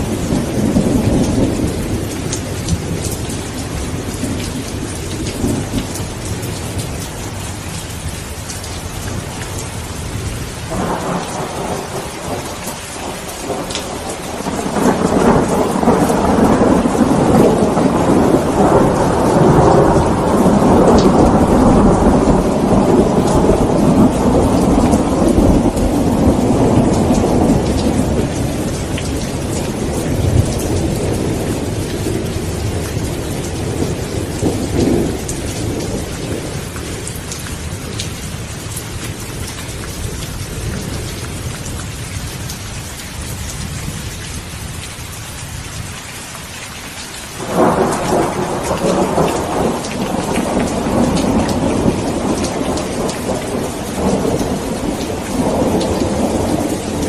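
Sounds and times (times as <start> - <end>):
thunder rumbling: 0.0 - 42.6, 47.4 - 57.0
rain falling: 0.0 - 57.0.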